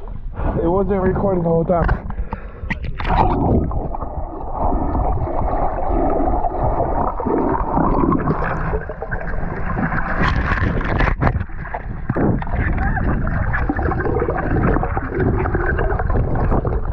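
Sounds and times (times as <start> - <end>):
muffled underwater rushing: 0.0 - 16.9.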